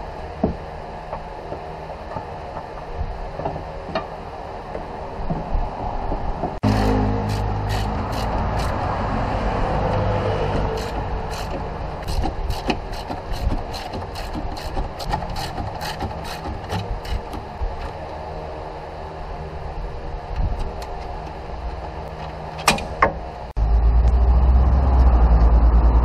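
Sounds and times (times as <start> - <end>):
car engine running: 0.0 - 24.4.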